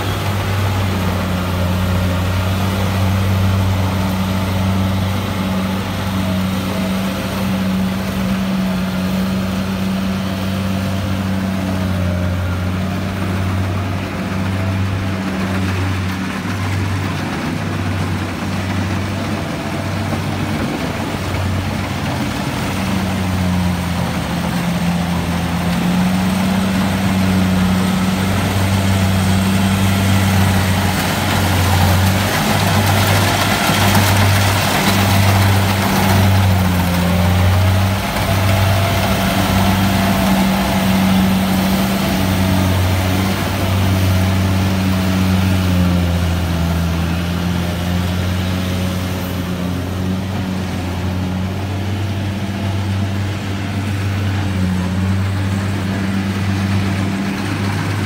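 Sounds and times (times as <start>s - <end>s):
combine harvester engine running: 0.0s - 58.0s.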